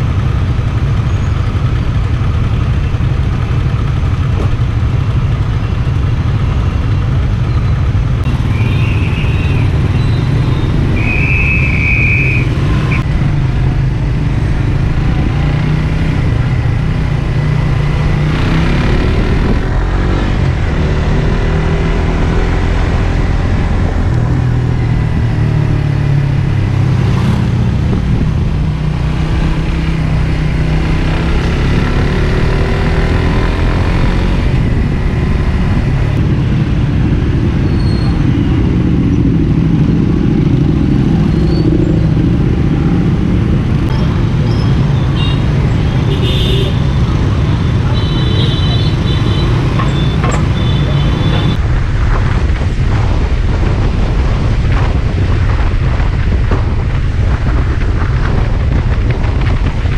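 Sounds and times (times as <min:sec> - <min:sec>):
motorbike traffic noise: 0:00.0 - 0:59.9
motorcycle engine revving: 0:00.0 - 0:59.9.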